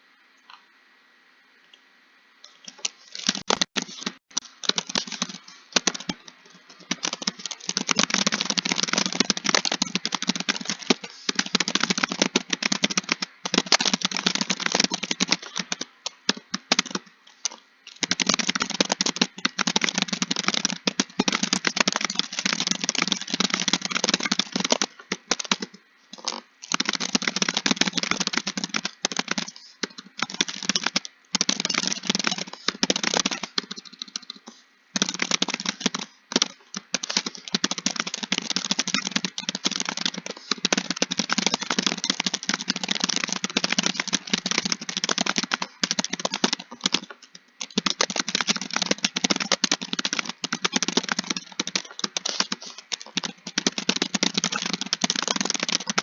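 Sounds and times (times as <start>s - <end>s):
typing on computer keyboard: 2.5s - 56.0s.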